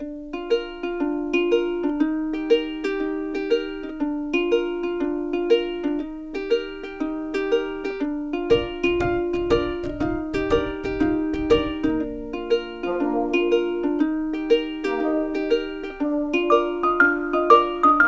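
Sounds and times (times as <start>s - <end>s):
plucked string tune: 0.0s - 18.0s.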